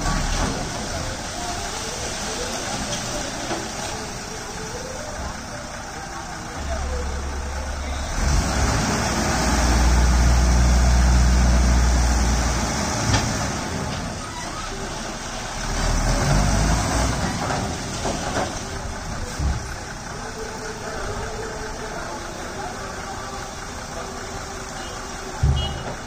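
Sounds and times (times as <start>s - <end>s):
diesel lorry engine revving: 0.0s - 26.0s.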